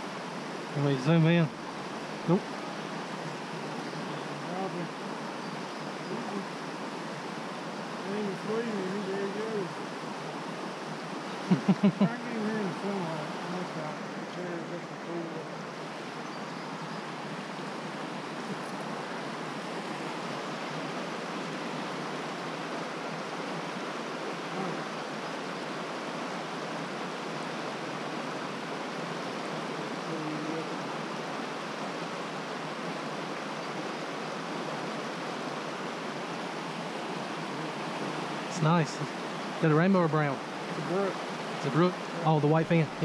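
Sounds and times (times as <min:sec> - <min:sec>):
creek water rushing: 0:00.0 - 0:43.0.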